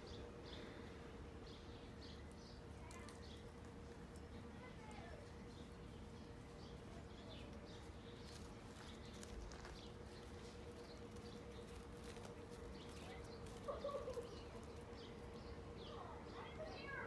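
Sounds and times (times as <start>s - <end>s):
faint steady hum: 0.0s - 17.0s
small birds chirping: 0.0s - 17.0s.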